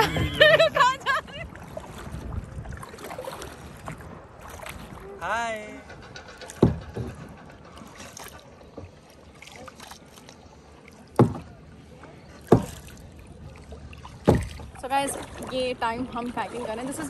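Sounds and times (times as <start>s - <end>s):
kayak paddle splashes: 0.0s - 5.2s, 6.4s - 17.0s
soft wash of water: 0.0s - 17.0s
wind: 0.0s - 17.0s.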